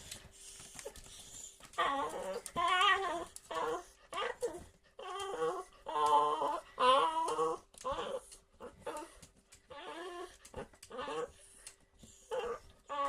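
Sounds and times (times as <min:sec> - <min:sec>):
dog whining: 0:01.7 - 0:11.4, 0:12.2 - 0:13.0.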